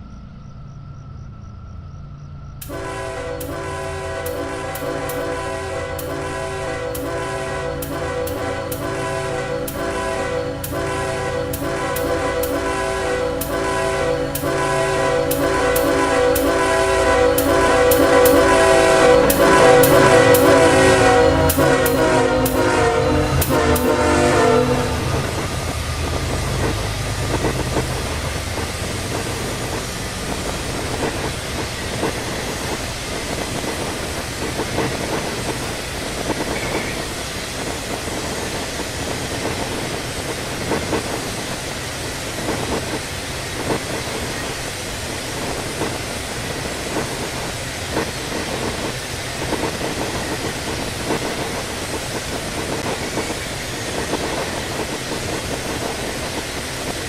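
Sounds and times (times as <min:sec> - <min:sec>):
low train rumble: 0:00.0 - 0:57.0
steel wheels on rails: 0:00.0 - 0:57.0
wheels click-clacking on rail joints: 0:01.6 - 0:57.0.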